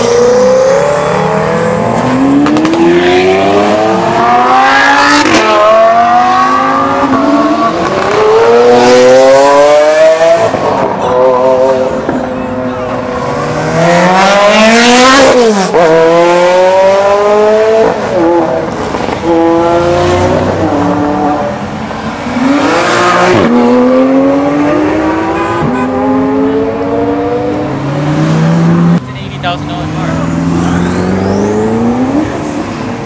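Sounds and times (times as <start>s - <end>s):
supercar engines revving through gears: 0.0s - 11.9s, 13.0s - 21.5s, 22.2s - 29.0s, 29.8s - 32.8s.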